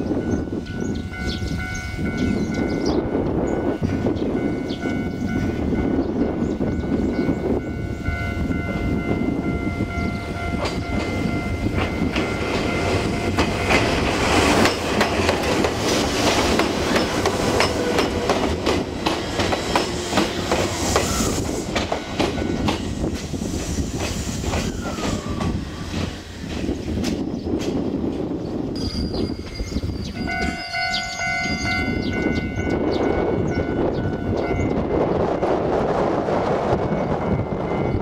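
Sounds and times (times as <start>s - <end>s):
crossing warning bell: 0.0s - 20.3s, 22.1s - 23.1s, 28.7s - 38.0s
train wheels clicking on rail joints: 0.2s - 38.0s.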